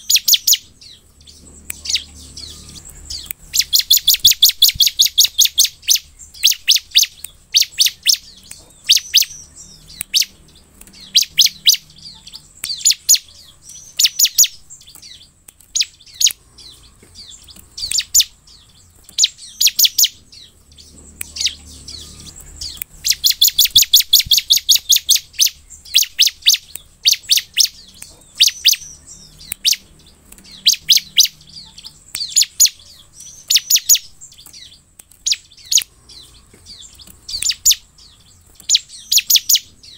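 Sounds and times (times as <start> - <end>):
bird high-pitched chirping: 0.0 - 39.9.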